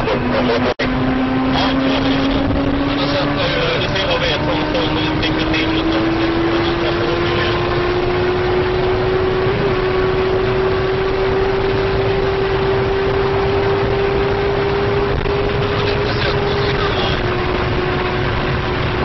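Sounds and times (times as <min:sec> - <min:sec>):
car engine accelerating: 0:00.0 - 0:19.0
road and wind noise: 0:00.0 - 0:19.0.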